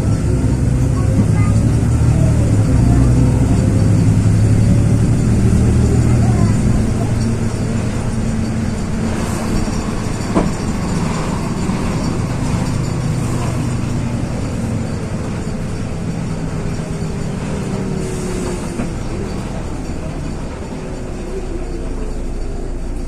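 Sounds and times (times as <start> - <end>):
bus engine drone: 0.0 - 23.0
road and body noise: 0.0 - 23.0.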